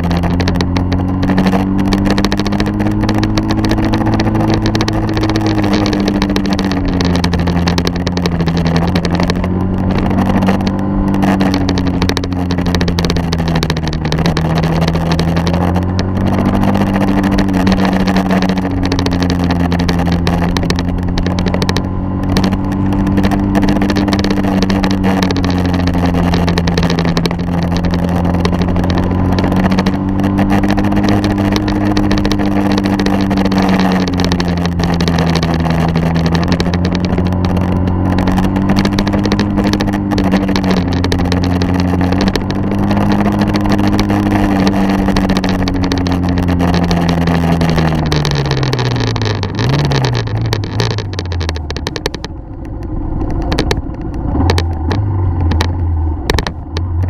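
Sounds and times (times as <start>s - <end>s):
rushing wind: 0.0s - 57.0s
vehicle engine running: 0.0s - 57.0s.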